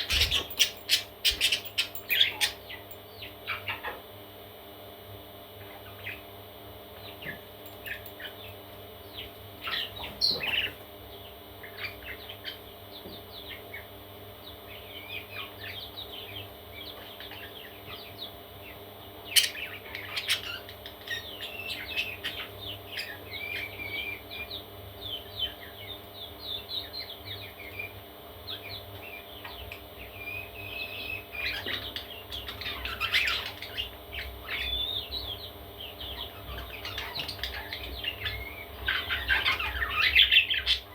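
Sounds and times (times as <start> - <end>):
parrot chicks chirping: 0.0 - 4.0, 5.6 - 6.3, 7.0 - 40.9
steady low hum: 0.0 - 40.9.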